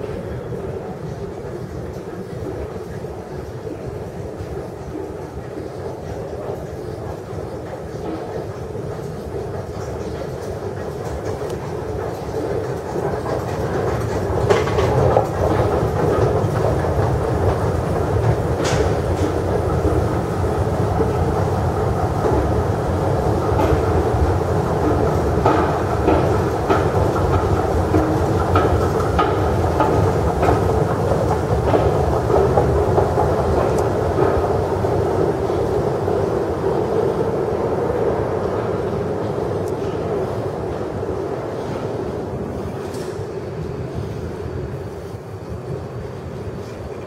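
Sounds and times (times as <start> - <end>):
escalator rumble and step clatter: 0.0 - 47.0.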